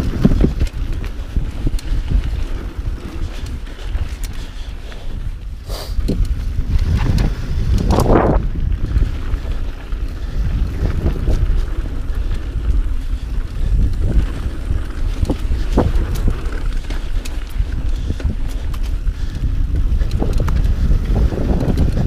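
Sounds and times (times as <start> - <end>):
bike knocks and rattles: 0.0 - 4.6, 6.0 - 22.0
tyre noise on dirt: 0.0 - 22.0
wind rumbling on microphone: 0.0 - 22.0.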